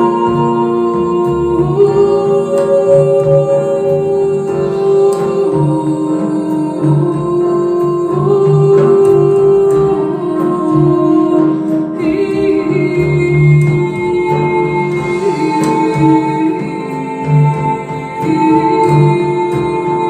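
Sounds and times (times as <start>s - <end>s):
long held chords: 0.0s - 20.0s
person singing: 0.0s - 20.0s.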